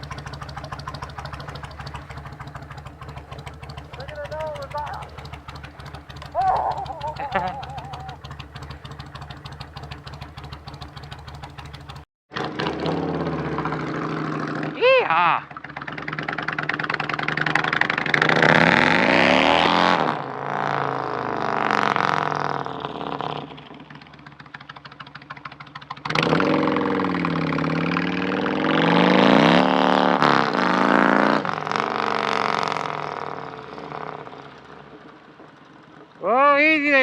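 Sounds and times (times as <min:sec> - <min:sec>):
motorbike engine revving: 0:00.0 - 0:35.6.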